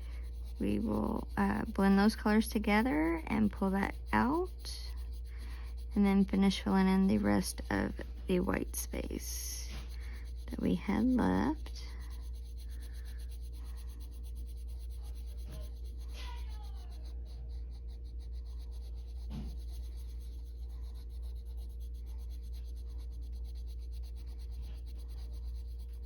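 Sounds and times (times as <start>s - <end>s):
colored pencil rubbing on paper: 0.0s - 26.0s
steady low hum: 0.0s - 26.0s.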